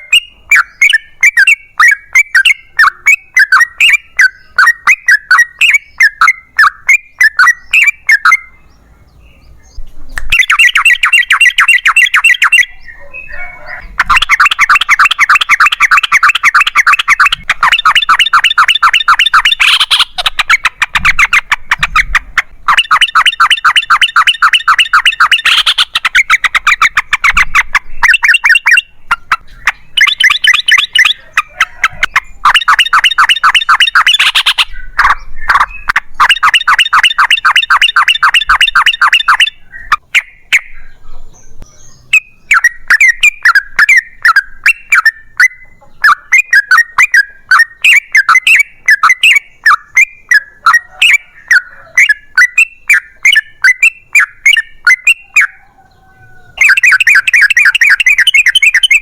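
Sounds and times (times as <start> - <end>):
bird chattering notes: 0.0 - 59.0
bird singing bubbling notes: 0.0 - 59.0.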